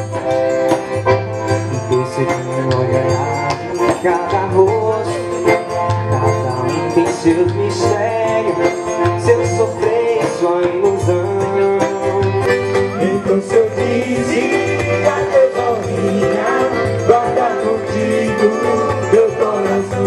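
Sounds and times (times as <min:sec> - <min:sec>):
light percussion: 0:00.0 - 0:20.0
steady bass line: 0:00.0 - 0:20.0.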